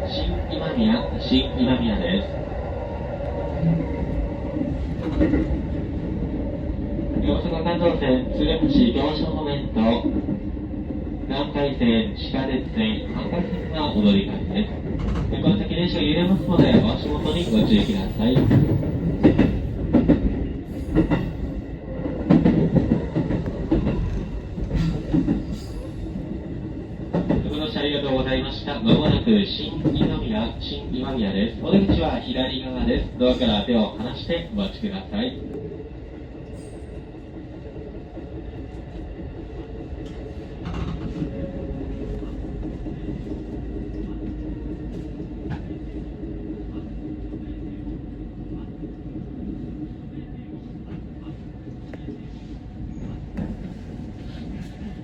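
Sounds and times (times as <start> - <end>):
train rumble from inside: 0.0 - 55.0.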